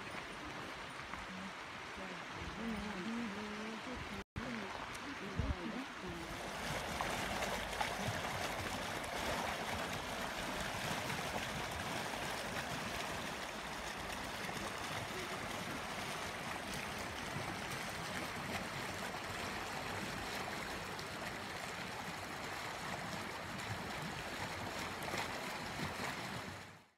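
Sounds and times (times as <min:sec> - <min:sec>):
river rushing over gravel: 0:00.0 - 0:26.8.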